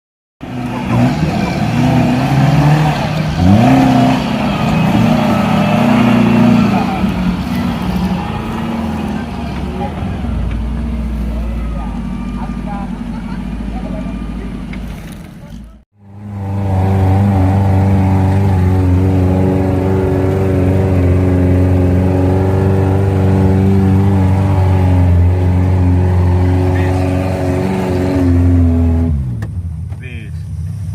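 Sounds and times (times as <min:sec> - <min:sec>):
car engine revving: 0:00.4 - 0:30.9.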